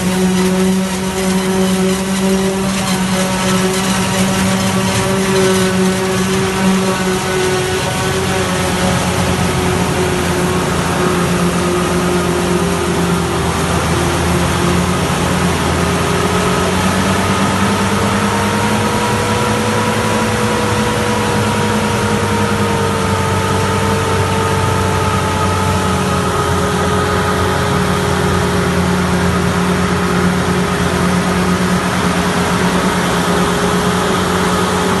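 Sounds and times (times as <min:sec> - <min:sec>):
engine whine: 0:00.0 - 0:35.0
tractor diesel engines running: 0:00.0 - 0:35.0.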